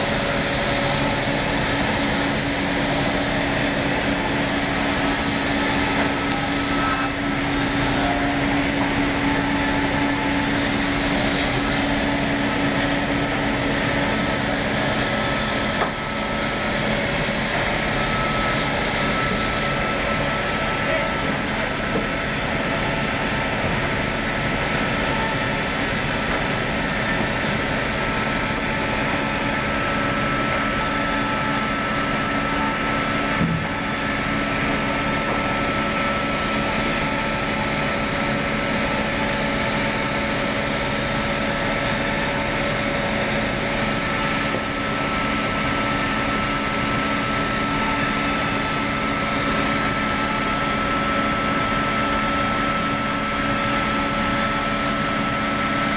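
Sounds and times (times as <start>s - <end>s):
sawmill blade humming: 0.0s - 55.9s.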